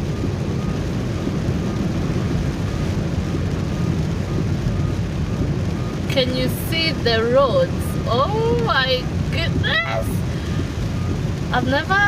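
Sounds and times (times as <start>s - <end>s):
rain and spray hissing: 0.0s - 12.0s
road and engine rumble: 0.0s - 12.0s.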